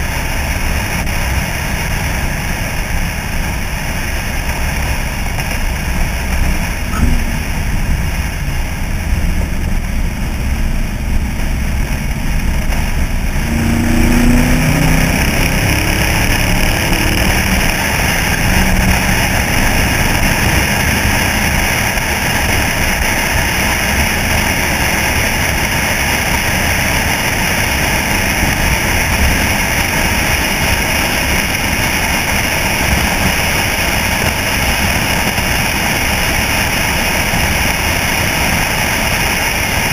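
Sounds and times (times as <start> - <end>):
truck engine running: 0.0 - 39.9
wind and road noise: 0.0 - 39.9.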